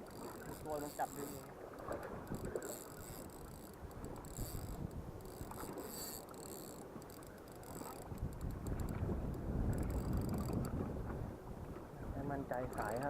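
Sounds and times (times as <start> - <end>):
spinning reel whirring: 0.0 - 10.8, 12.4 - 13.0
low wind: 0.0 - 13.0
water rumble: 0.0 - 13.0.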